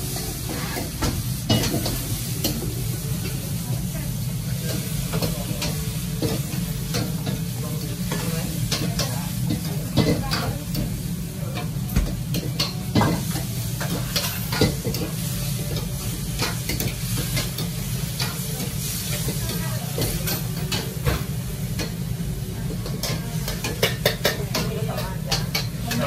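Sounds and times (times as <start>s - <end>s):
food sizzling: 0.0s - 26.0s.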